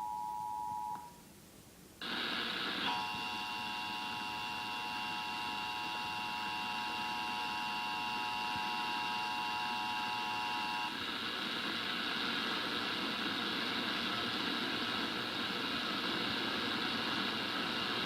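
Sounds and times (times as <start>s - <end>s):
static hiss: 1.0s - 18.0s.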